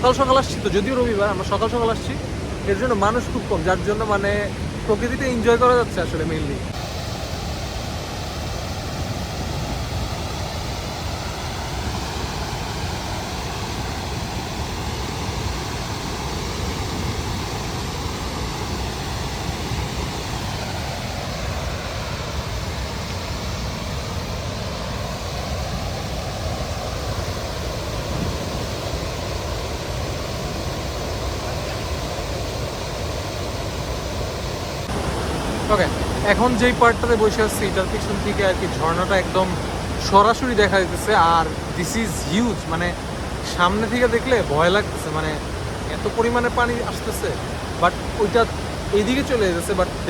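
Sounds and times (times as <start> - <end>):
waterfall roaring: 0.0 - 50.0.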